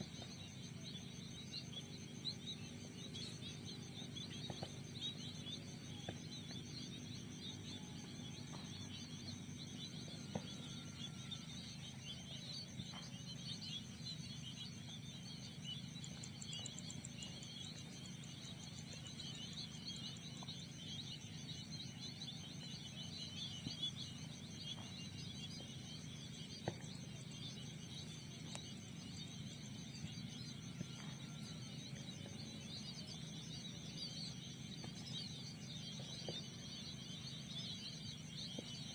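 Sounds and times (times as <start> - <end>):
faint chirps and clicks: 0.0 - 38.9
insect chorus trilling: 0.0 - 38.9
low background hum: 0.0 - 38.9.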